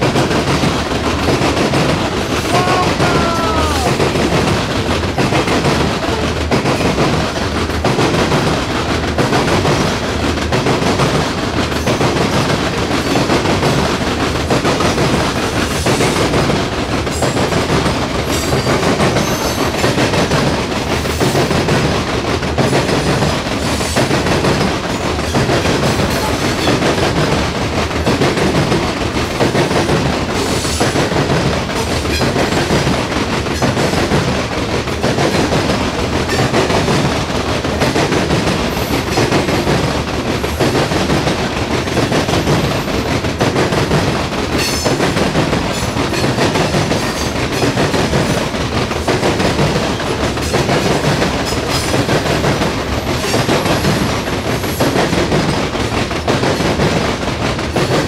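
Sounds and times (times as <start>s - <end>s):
train wheels rolling on rails: 0.0s - 58.0s
wheels clicking over rail joints: 0.0s - 58.0s.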